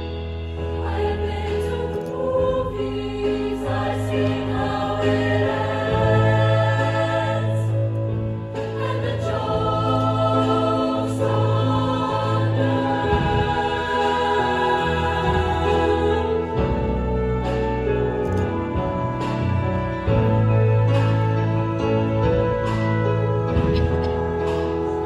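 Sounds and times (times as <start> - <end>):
choir singing in harmony: 0.0 - 25.0
sustained low bass notes: 0.0 - 25.0.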